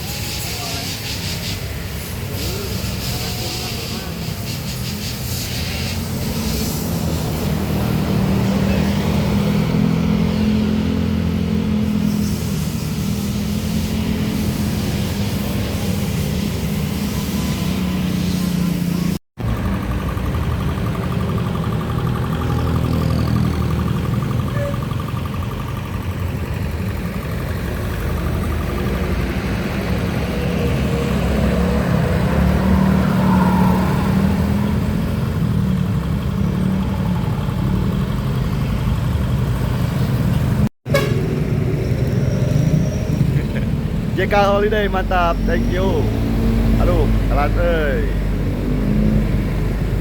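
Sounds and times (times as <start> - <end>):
heavy vehicle engine drone: 0.0 - 50.0.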